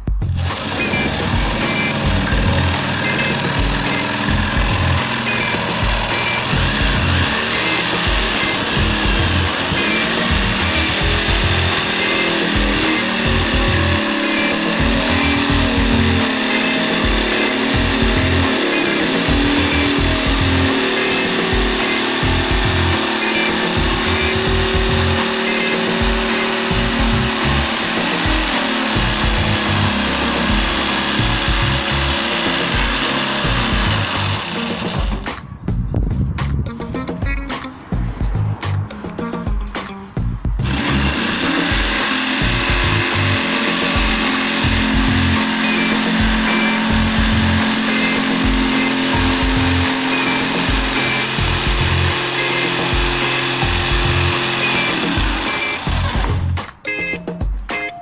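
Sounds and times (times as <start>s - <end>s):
music with bass beat: 0.0s - 58.0s
jigsaw cutting board: 0.3s - 35.4s, 40.6s - 56.7s.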